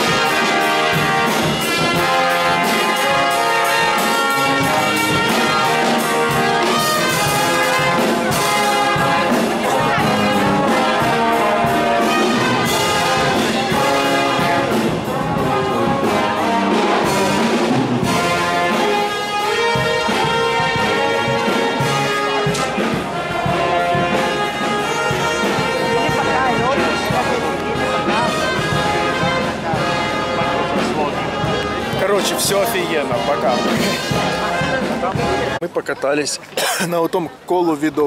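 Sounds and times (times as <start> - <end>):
trumpets and trombones playing: 0.0 - 35.6
brass band music: 0.0 - 37.5.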